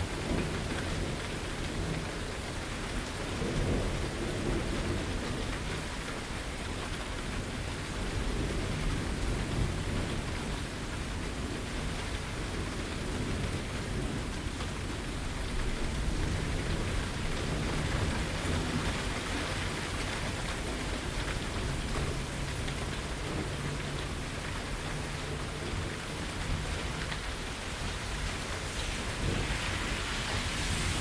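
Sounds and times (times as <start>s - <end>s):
low rumble of thunder: 0.0s - 31.0s
rain pattering: 0.0s - 31.0s.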